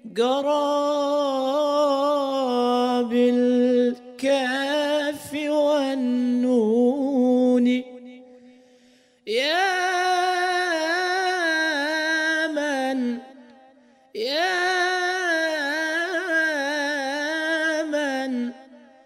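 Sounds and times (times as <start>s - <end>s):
man singing devotional chant: 0.0s - 8.4s, 9.2s - 19.0s.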